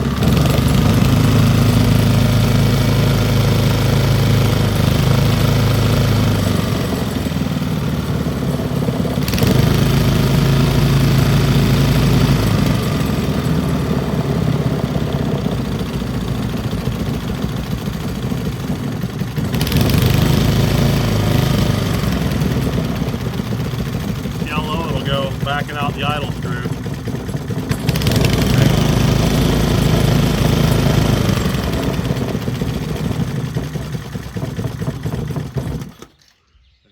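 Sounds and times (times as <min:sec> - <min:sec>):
small engine running: 0:00.0 - 0:36.4.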